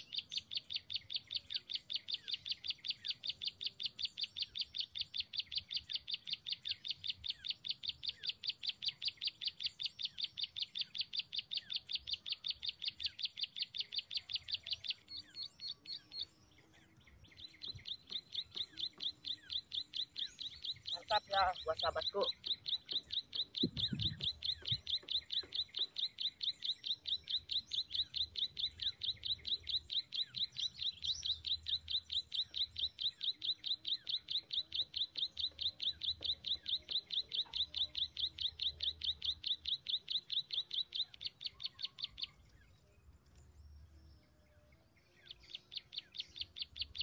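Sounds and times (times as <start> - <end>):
bird chirping: 0.0 - 47.0.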